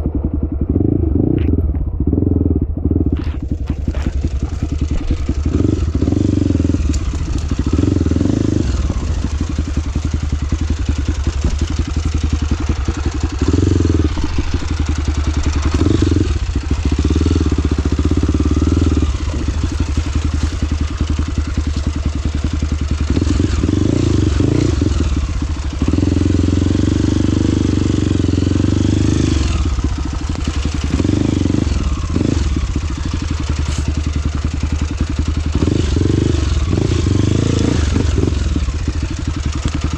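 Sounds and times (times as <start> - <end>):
trail motorcycle engine revving: 0.0 - 39.9.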